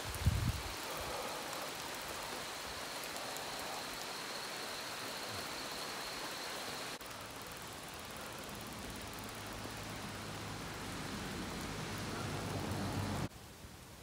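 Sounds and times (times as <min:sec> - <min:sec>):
bicycle tyres on wet road: 0:00.0 - 0:13.3
rain hissing: 0:00.0 - 0:14.0.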